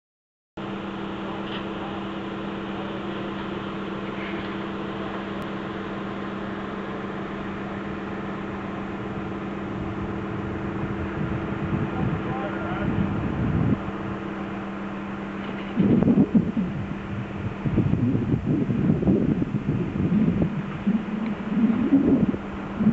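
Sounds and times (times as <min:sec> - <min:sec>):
crane engine running: 0:00.6 - 0:22.9.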